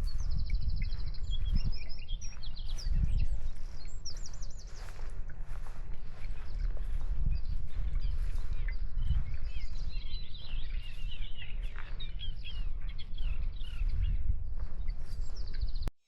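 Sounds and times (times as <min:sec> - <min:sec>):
small birds chirping: 0:00.0 - 0:15.9
wind rumble on microphone: 0:00.0 - 0:15.9.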